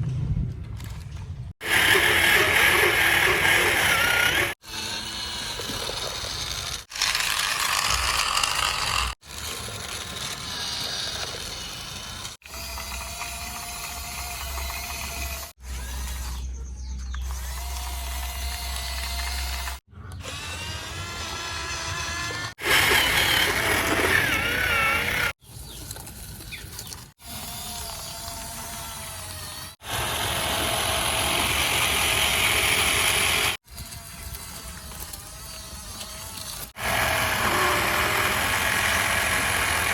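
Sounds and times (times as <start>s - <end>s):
toy electric motors whirring: 1.6s - 39.9s.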